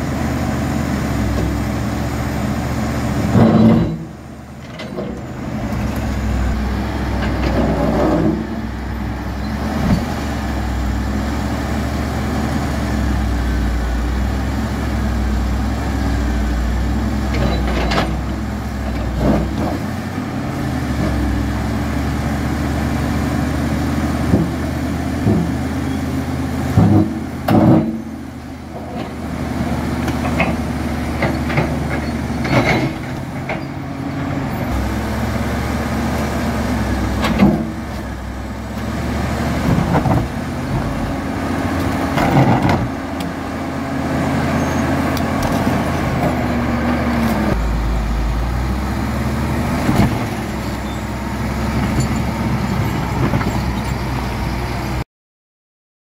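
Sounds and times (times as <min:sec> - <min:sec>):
diesel engines running under load: 0:00.0 - 0:55.0.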